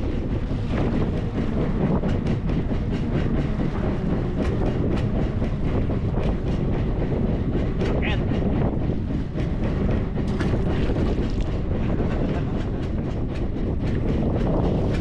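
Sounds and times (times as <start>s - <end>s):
boat engine low rumble: 0.0s - 15.0s
clatter of knocks and clicks: 0.1s - 15.0s.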